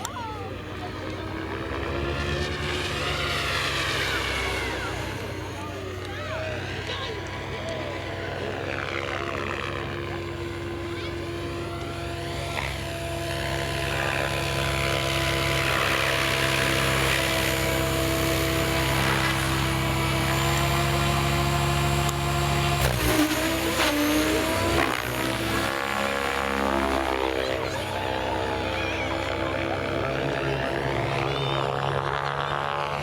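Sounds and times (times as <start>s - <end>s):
model helicopter whine: 0.0s - 33.0s.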